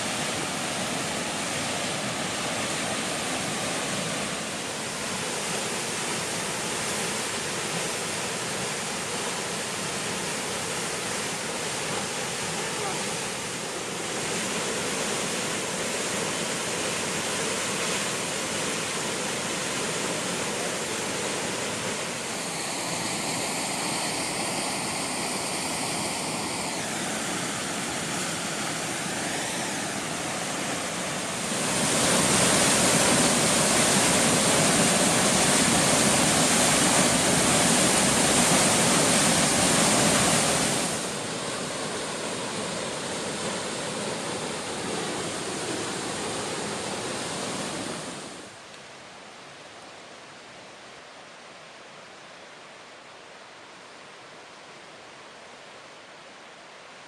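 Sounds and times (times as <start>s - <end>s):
waterfall rushing: 0.0s - 48.6s.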